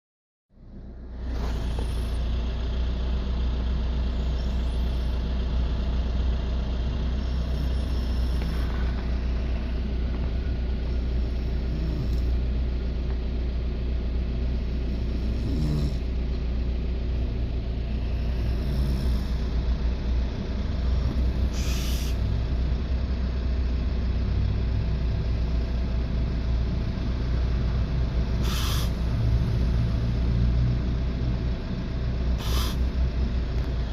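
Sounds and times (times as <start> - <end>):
vehicle engine idling: 0.5 - 33.9.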